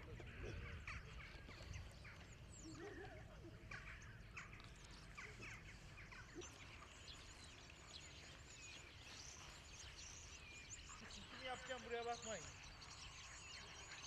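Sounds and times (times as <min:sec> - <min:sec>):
bird chirps and calls: 0:00.0 - 0:14.0.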